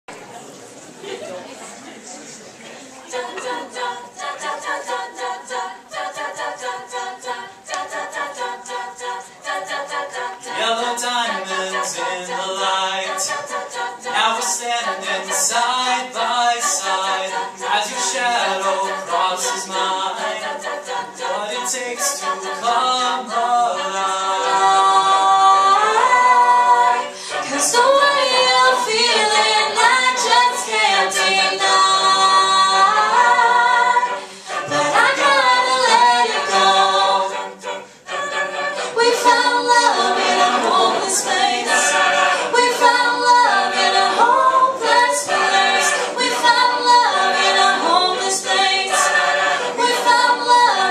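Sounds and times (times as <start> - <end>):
a cappella group singing in harmony: 2.9 - 50.9.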